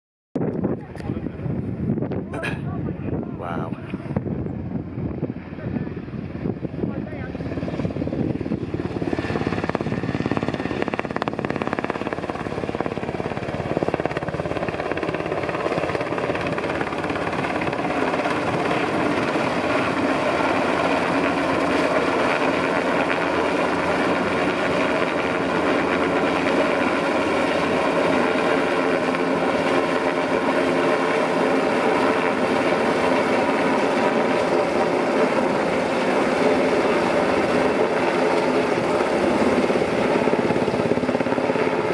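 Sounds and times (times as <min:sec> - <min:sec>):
helicopter rotors and engines: 0:00.4 - 0:41.9.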